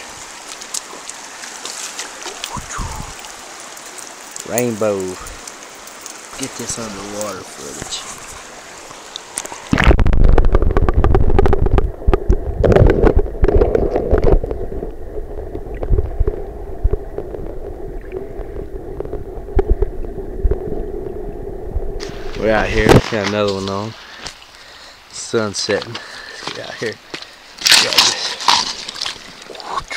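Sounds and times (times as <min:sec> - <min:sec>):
muffled underwater stream rush: 0:00.0 - 0:25.2.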